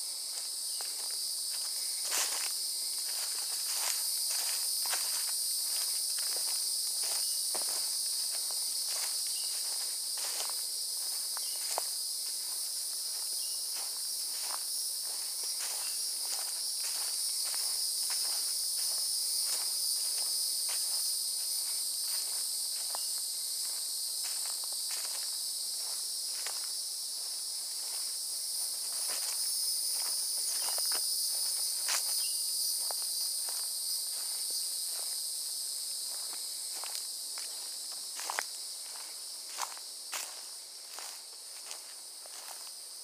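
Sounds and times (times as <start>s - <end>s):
footsteps crunching on dry leaves: 0.0s - 43.0s
insects chorus: 0.0s - 43.0s.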